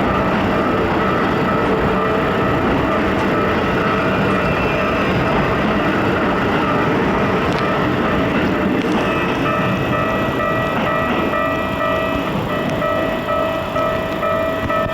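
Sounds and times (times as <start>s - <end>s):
electric train running past: 0.0s - 14.9s.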